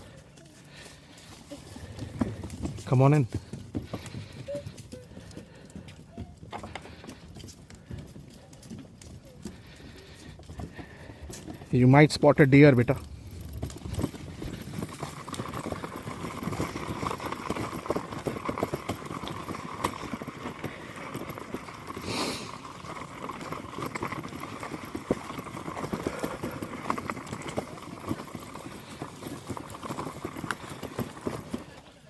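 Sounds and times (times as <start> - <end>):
footsteps on forest trail: 0.0 - 32.0.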